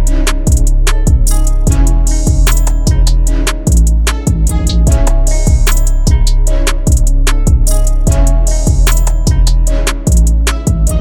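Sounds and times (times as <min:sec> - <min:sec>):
music with drums and plucked guitar: 0:00.0 - 0:11.0.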